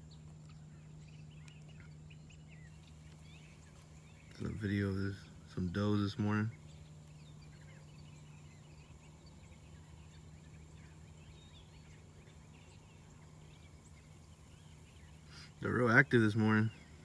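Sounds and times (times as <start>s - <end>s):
distant birds chirping: 0.0s - 17.0s
low steady hum: 0.0s - 17.0s.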